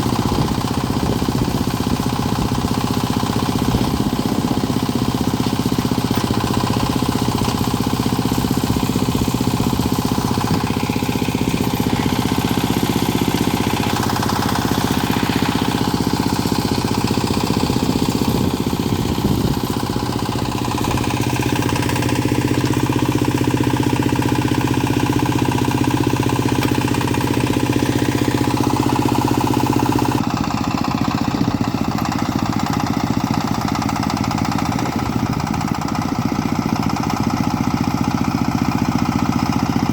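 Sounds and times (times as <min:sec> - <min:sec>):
backhoe loader engine running: 0:00.0 - 0:39.9.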